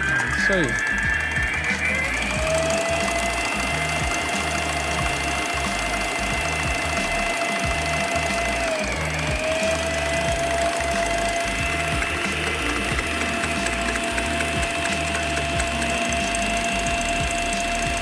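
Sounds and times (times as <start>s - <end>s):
background music: 0.0s - 18.0s
stand mixer motor whine: 0.0s - 18.0s
whisk beating in steel bowl: 0.0s - 18.0s.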